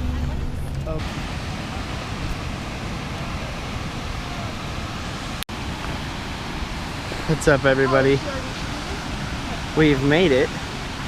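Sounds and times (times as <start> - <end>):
ocean surf: 0.9 - 11.0.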